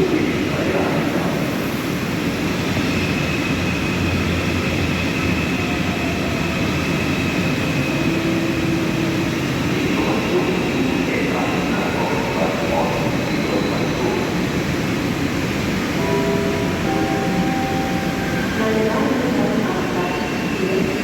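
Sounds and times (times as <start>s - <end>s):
train rumbling and rushing: 0.0s - 21.0s.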